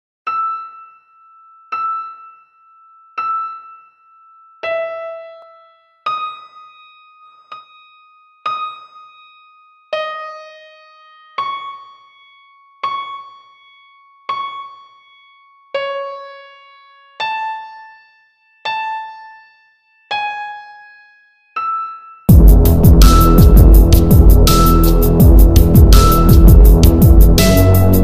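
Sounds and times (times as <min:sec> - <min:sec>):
slow piano melody: 0:00.3 - 0:28.0.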